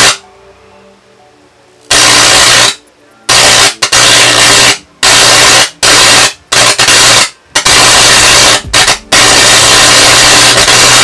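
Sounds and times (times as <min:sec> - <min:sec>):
electric arc buzzing: 0:00.0 - 0:00.2, 0:01.9 - 0:11.0.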